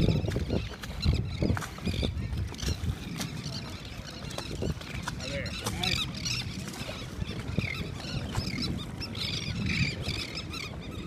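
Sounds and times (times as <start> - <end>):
seagulls squawking: 0.0 - 11.0.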